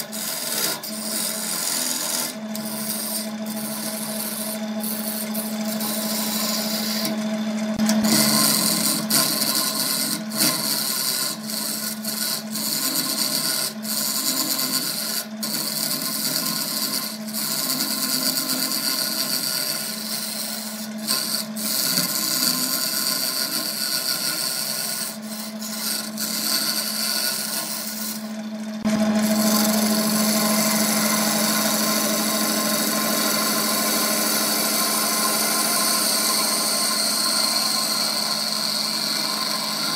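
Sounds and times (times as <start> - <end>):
chisel scraping spinning wood: 0.0 - 39.9
lathe motor hum: 0.0 - 39.9.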